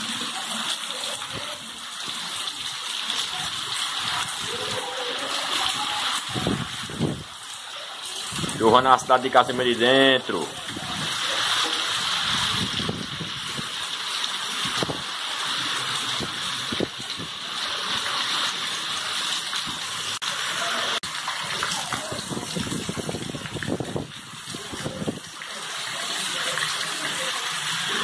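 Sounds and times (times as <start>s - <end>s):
heavy rain on pavement: 0.0s - 28.0s
water splashing off roof: 0.0s - 28.0s.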